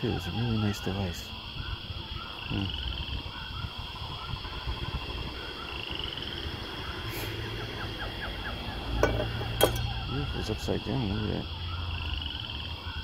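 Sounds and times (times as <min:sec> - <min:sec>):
bird trill: 0:00.0 - 0:13.0
birds singing: 0:00.0 - 0:13.0.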